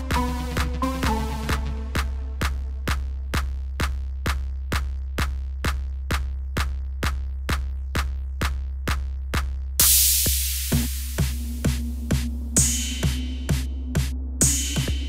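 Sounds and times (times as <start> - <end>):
electronic music with kick drum: 0.0 - 15.0
low bass: 0.0 - 15.0.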